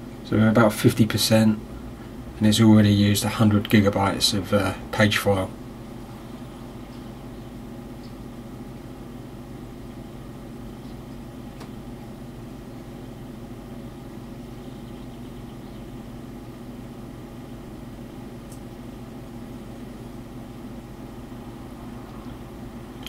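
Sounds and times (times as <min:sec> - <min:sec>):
computer humming: 0:00.0 - 0:23.0.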